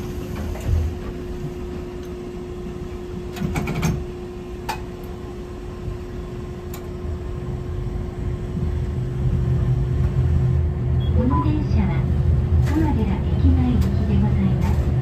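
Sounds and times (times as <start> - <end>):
low rumble of streetcar: 0.0 - 15.0
streetcar hum: 0.0 - 15.0.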